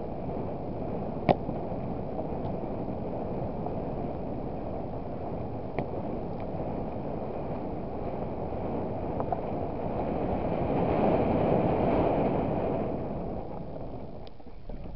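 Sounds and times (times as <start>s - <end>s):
wind on microphone: 0.0s - 14.9s.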